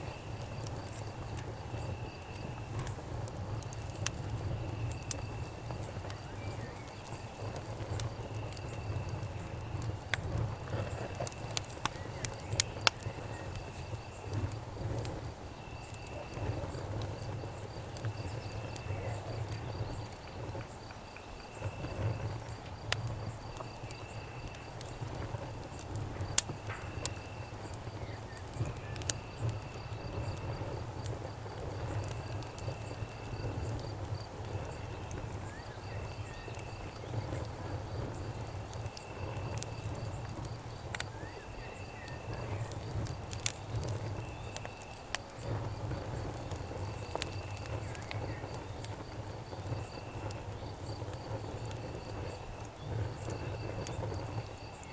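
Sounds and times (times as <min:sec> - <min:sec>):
campfire crackling and popping: 0:00.0 - 0:54.9
insects chirping in trills: 0:00.0 - 0:54.9.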